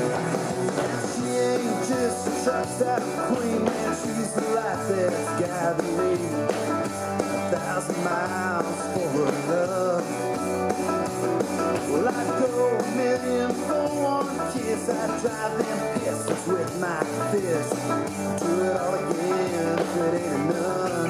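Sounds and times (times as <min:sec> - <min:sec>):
country rock song: 0:00.0 - 0:21.0.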